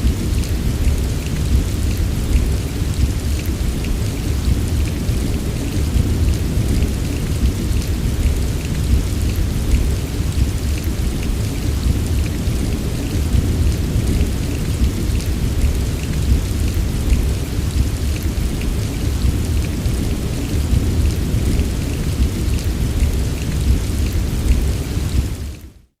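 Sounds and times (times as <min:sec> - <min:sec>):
heavy rain: 0:00.0 - 0:25.7.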